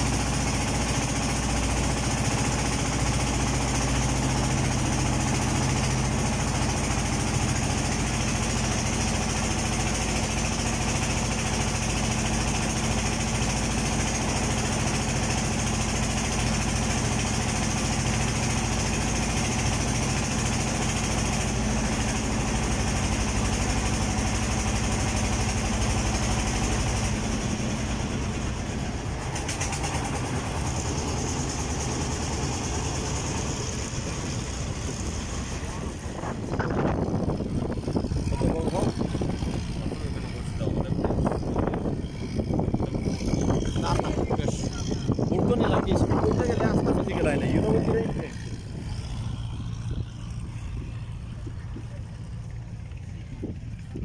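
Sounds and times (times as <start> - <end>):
boat engine humming: 0.0 - 54.0
water rushing along hull: 0.0 - 54.0
wind: 0.0 - 54.0.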